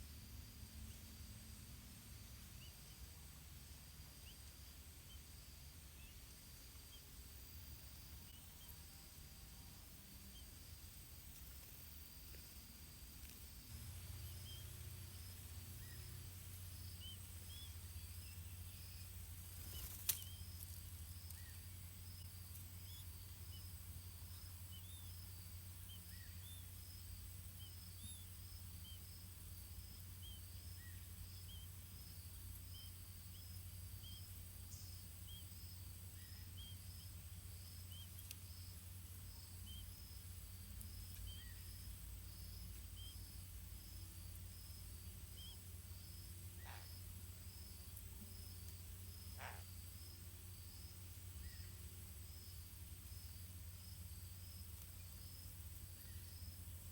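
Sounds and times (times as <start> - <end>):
insect chirping in fast pulses: 9.8 - 56.9.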